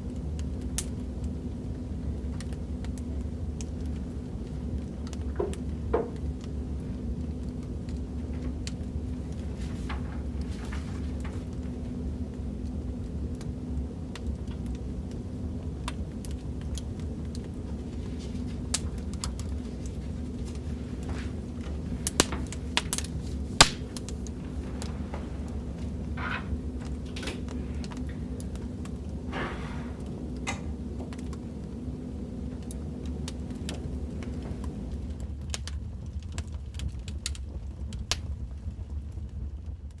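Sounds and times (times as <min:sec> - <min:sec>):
low rumble of burning logs: 0:00.0 - 0:40.0
wood fire crackling: 0:00.0 - 0:40.0.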